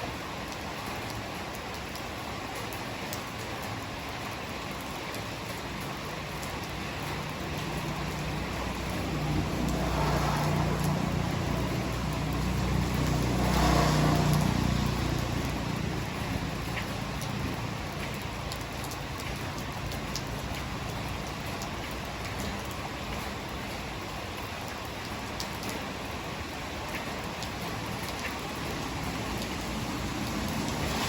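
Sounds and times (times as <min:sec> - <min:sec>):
hard rain falling: 0:00.0 - 0:31.0.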